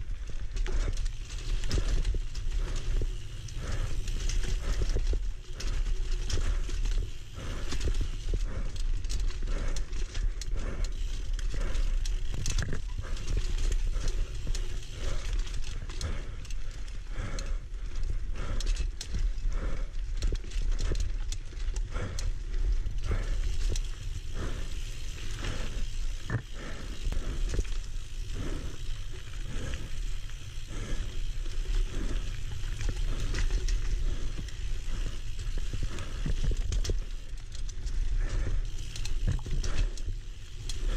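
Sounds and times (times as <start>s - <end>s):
bike rattling over bumps: 0.0s - 40.9s.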